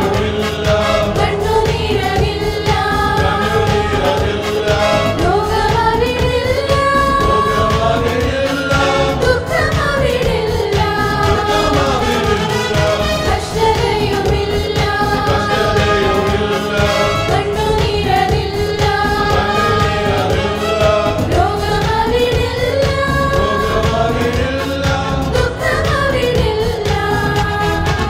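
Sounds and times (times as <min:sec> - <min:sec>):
keyboard: 0:00.0 - 0:28.0
mixed choir singing: 0:00.0 - 0:28.0.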